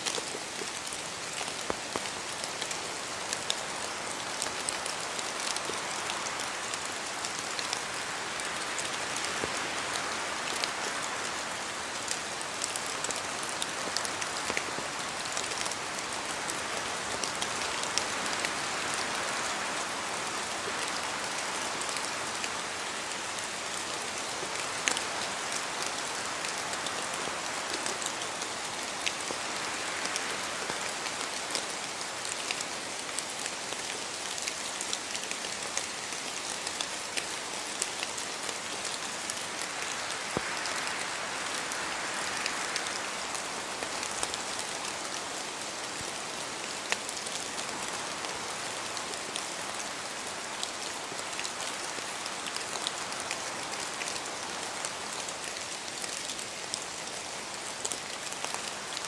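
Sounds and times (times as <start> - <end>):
rain falling in a forest: 0.0 - 59.0
raindrops pattering: 0.0 - 59.0.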